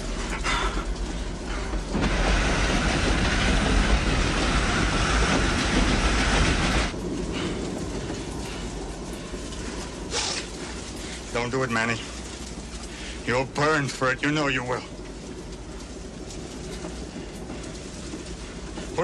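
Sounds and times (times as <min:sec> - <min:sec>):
train rattling along track: 0:00.0 - 0:19.0.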